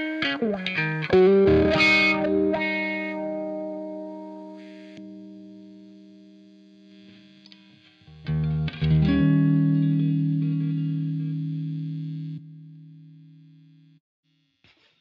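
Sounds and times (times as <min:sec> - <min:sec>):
electric guitar notes: 0:00.0 - 0:14.0.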